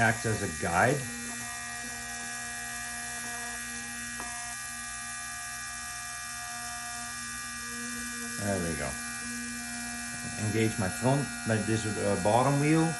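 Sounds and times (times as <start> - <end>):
engraving tool motor running: 0.0 - 12.9.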